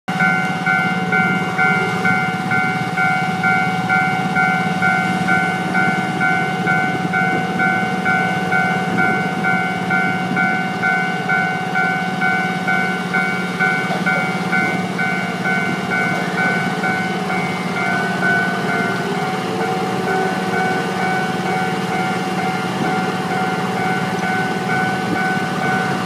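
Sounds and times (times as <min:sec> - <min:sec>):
level crossing warning bell: 0:00.1 - 0:26.0.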